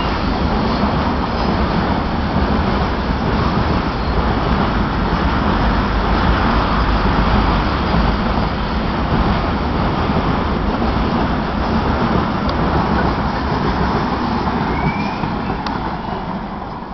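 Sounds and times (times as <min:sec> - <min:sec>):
train rumbling by: 0:00.0 - 0:16.9.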